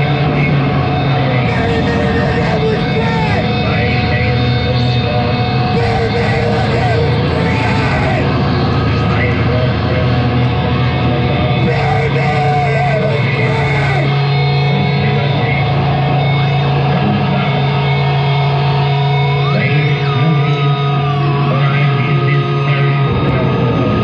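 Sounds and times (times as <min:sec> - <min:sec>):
distorted guitar: 0:00.0 - 0:24.0
low droning tone: 0:00.0 - 0:24.0.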